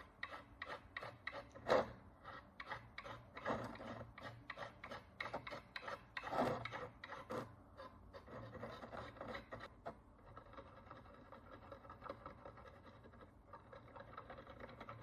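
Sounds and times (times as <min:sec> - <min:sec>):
hand tool scraping a coin: 0:00.0 - 0:15.0.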